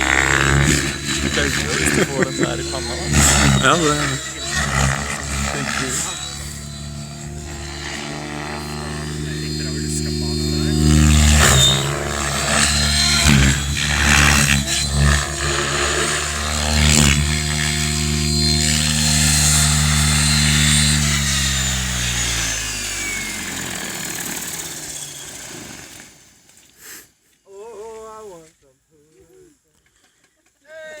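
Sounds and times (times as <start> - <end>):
rc helicopter motor and rotor: 0.0 - 27.0.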